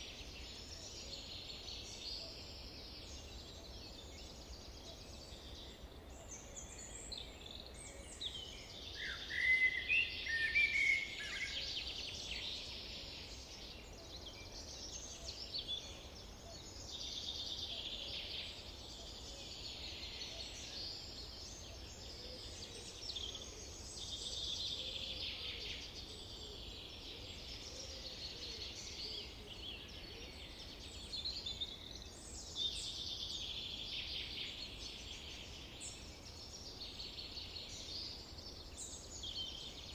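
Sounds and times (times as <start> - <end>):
birds chirping and trilling: 0.1 - 39.9.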